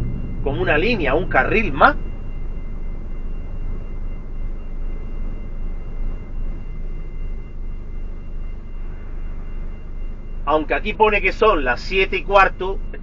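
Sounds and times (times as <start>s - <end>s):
high-pitched whine: 0.0s - 13.0s
low machinery rumble: 0.0s - 13.0s.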